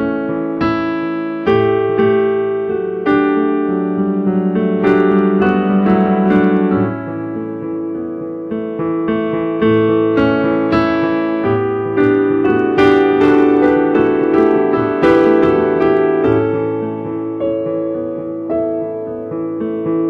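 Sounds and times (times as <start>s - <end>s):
solo piano slow chords: 0.0s - 20.0s.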